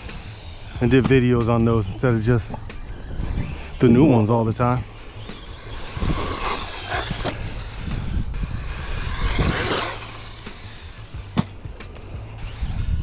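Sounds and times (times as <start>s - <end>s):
rc buggy tyres on dirt: 0.0s - 13.0s.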